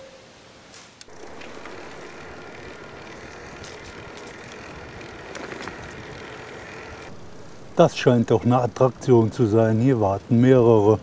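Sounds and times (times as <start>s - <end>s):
thin high hum: 1.0s - 10.8s
electric bike riding noise: 1.0s - 11.0s.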